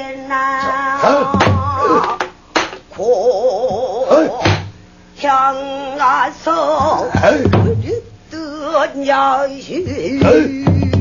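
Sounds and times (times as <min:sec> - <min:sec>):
person singing with vibrato: 0:00.0 - 0:02.3, 0:02.9 - 0:11.0.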